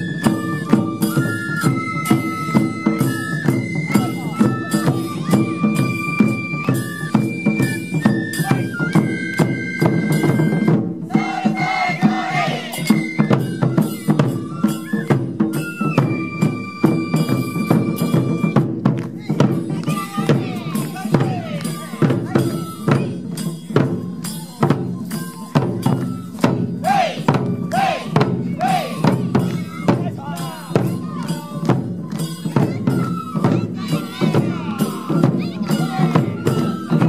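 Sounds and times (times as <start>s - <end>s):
bamboo flutes melody: 0.0s - 37.0s
taiko drums beat: 0.0s - 37.0s.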